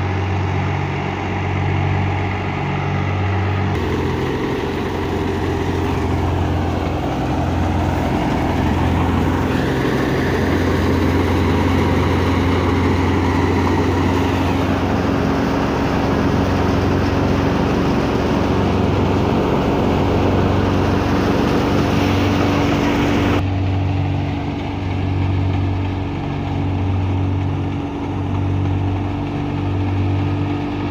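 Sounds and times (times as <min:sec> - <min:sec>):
diesel tractor engine hum: 0:00.0 - 0:30.9
low mechanical pulsing: 0:00.0 - 0:30.9
wheat thresher running: 0:00.0 - 0:30.9.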